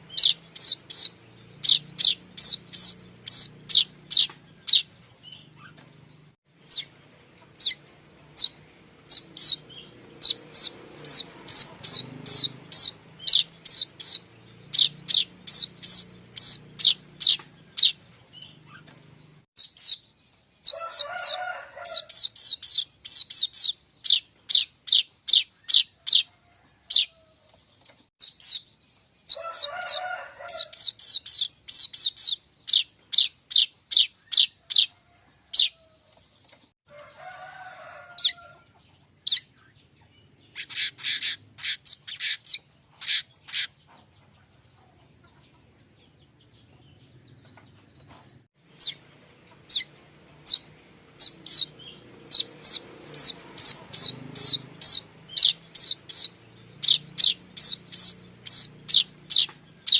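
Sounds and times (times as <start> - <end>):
bird chipping: 0.0 - 5.9, 6.6 - 26.3, 26.9 - 34.9, 39.1 - 44.5, 48.7 - 49.0, 49.6 - 59.9.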